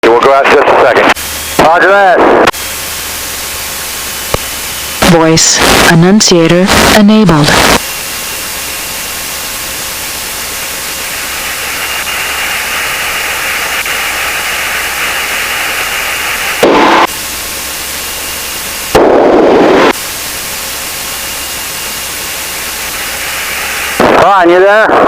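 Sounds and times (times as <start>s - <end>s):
loud static bursts: 0.0s - 25.0s
radio static hiss: 0.0s - 25.0s.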